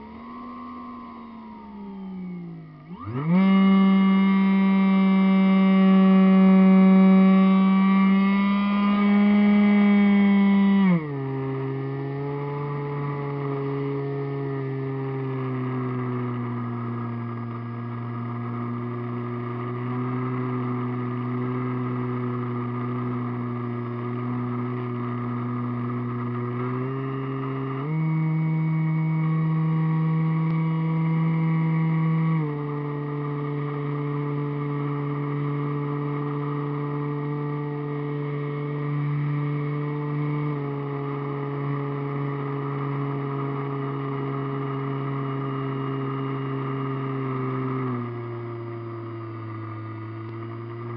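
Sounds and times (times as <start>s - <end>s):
model airplane motor and propeller: 0.0s - 50.9s.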